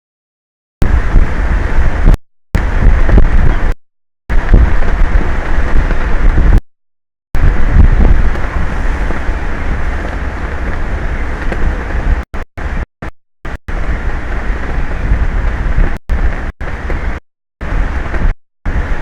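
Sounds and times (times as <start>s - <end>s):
wind buffeting microphone: 0.8s - 6.6s, 7.4s - 12.9s, 13.5s - 19.0s.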